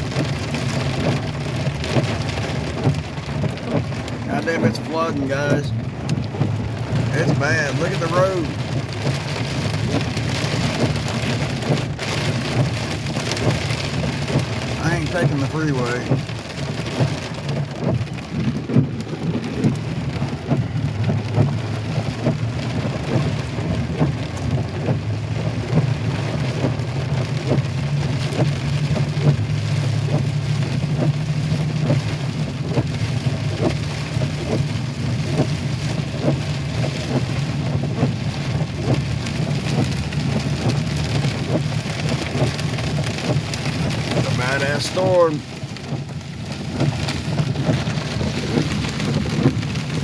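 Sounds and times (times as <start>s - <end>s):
continuous low rumble: 0.0s - 50.0s
heavy rain on a vehicle roof: 0.0s - 50.0s.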